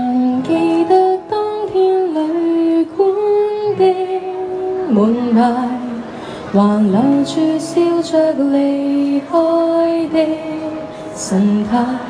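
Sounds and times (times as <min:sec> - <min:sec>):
acoustic guitar: 0:00.0 - 0:12.0
woman singing a slow ballad: 0:00.0 - 0:12.0.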